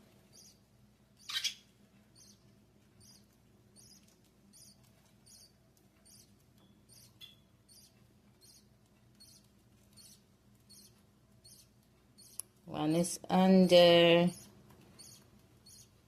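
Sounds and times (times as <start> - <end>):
parakeet chicks cheeping faintly: 0.0 - 16.0.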